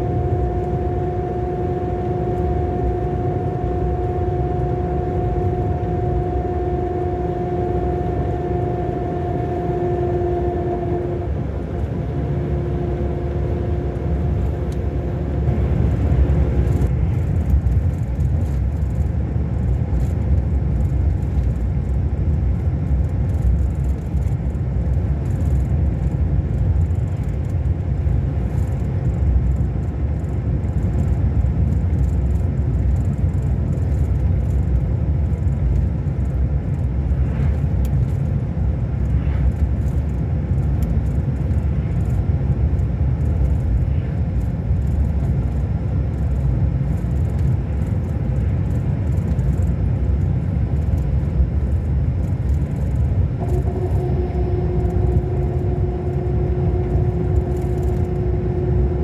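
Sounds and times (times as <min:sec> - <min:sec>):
coach engine running: 0:00.0 - 0:59.0.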